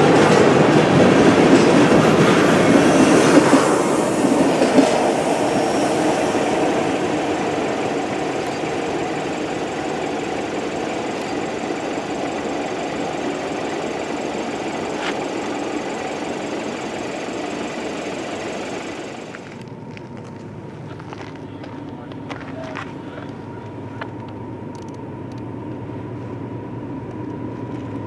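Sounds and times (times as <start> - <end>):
freight train rumble: 0.0 - 28.0.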